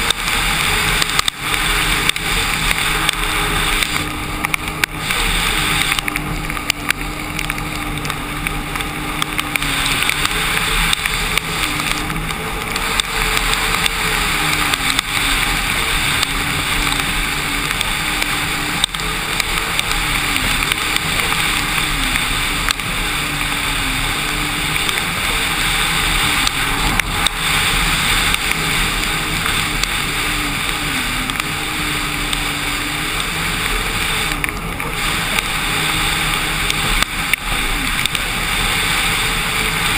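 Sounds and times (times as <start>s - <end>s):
watercraft engine running: 0.0s - 39.9s
wind and spray rushing: 0.0s - 39.9s.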